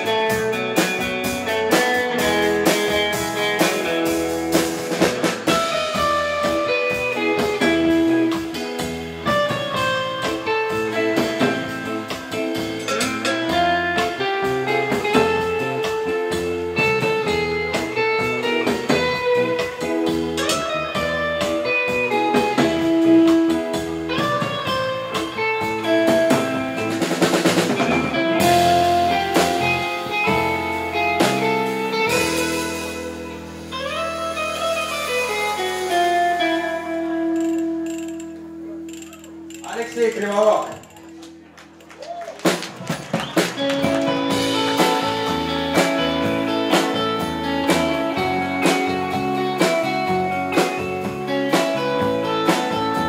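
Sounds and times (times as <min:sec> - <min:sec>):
twangy lead electric guitar: 0:00.0 - 0:41.5, 0:42.4 - 0:53.0
electric bass: 0:00.0 - 0:41.9, 0:42.5 - 0:53.0
drum kit: 0:00.0 - 0:53.0.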